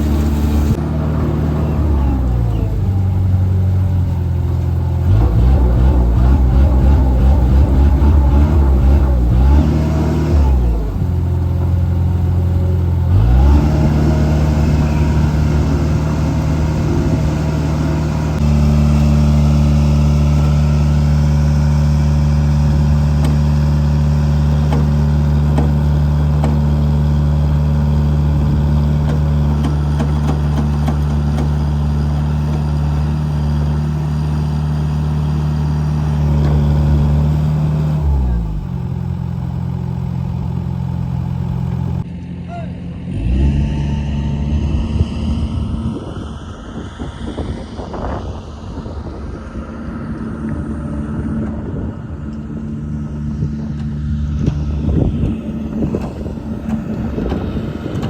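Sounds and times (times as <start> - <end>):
heavy machinery engine running: 0.0 - 58.0.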